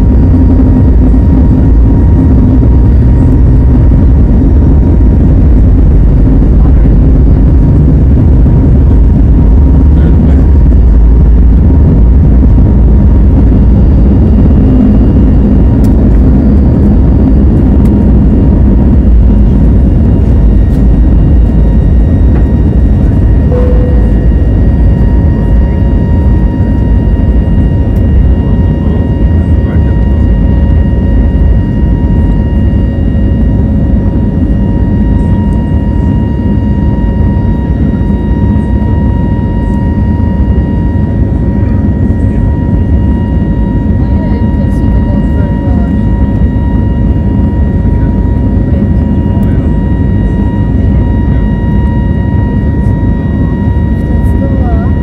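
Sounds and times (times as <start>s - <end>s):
faint high engine whine: 0.0s - 55.0s
jet engine rumble in cabin: 0.0s - 55.0s.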